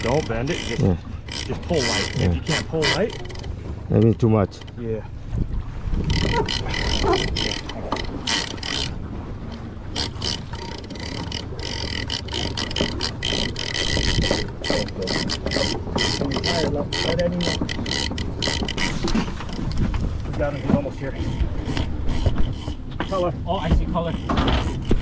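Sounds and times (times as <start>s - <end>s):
fishing reel clicking: 0.0s - 4.8s, 6.0s - 19.8s, 20.5s - 23.3s, 24.1s - 25.0s.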